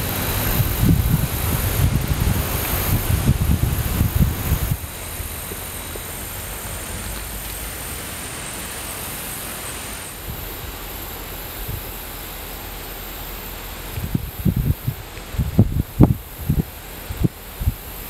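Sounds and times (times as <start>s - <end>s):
soft hiss of wind and rustling: 0.0s - 18.0s.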